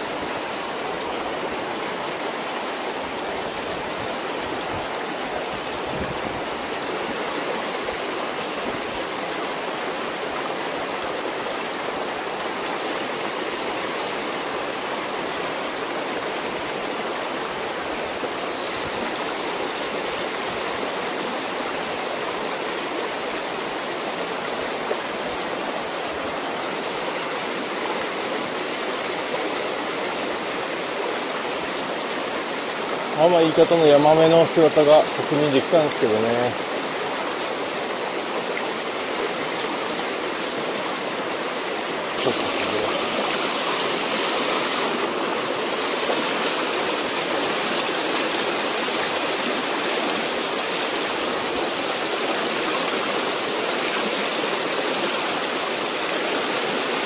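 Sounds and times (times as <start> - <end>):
river rushing over boulders: 0.0 - 57.0.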